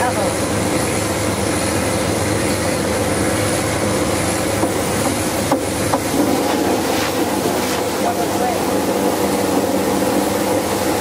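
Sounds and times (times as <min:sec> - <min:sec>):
drilling rig machinery drone: 0:00.0 - 0:11.0.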